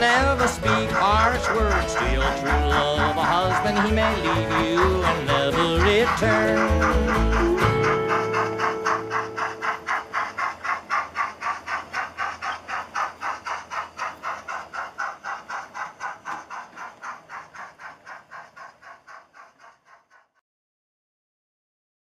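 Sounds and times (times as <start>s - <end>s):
steam locomotive chuffing: 0.0s - 20.4s.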